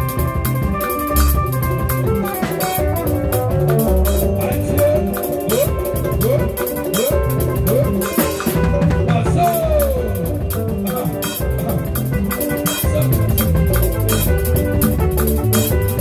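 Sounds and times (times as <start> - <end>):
clay pot drum: 0.0 - 16.0
electric bass guitar: 0.0 - 16.0
percussion: 0.0 - 16.0
sliding notes: 0.0 - 16.0.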